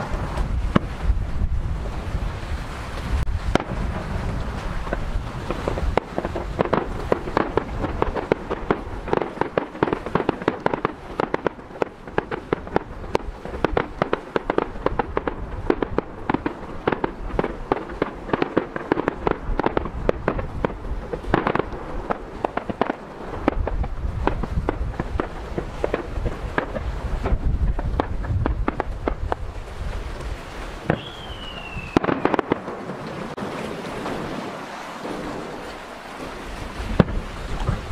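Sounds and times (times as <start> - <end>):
fireworks bangs: 0.0 - 37.9
fireworks crackling pops: 0.0 - 37.9.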